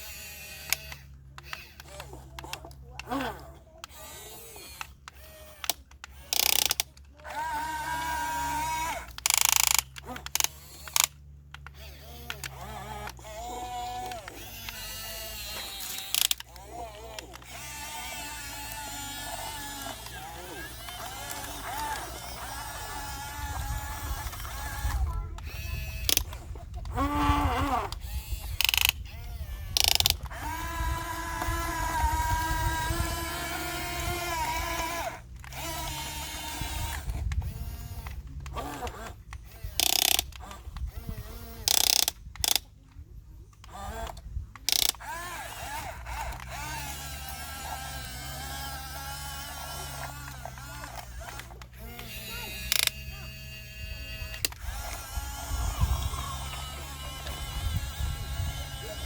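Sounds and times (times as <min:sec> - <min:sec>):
electric motor whine: 0:00.0 - 0:59.0
gears rattling buzz: 0:00.0 - 0:59.0
small clicks: 0:00.0 - 0:59.0.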